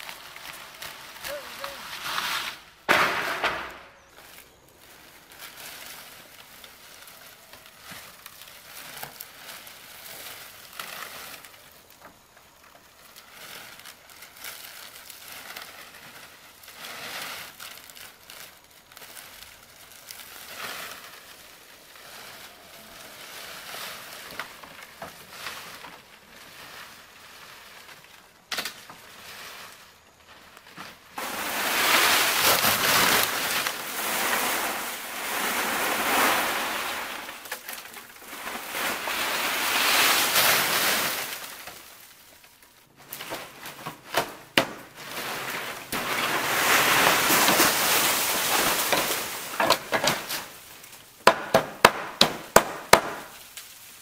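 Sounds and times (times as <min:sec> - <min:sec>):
dry leaf thatch rustling: 0:00.0 - 0:51.2, 0:52.5 - 0:54.0.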